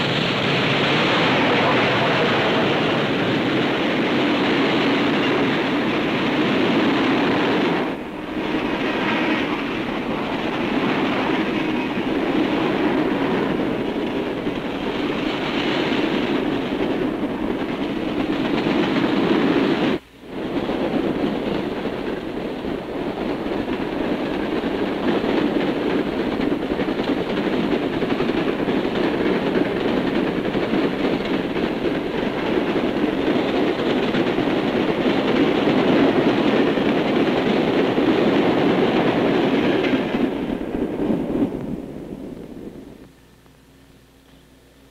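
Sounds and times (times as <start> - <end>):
wheels clickety-clack on rail: 0.0 - 43.2
freight train rolling past: 0.0 - 43.4.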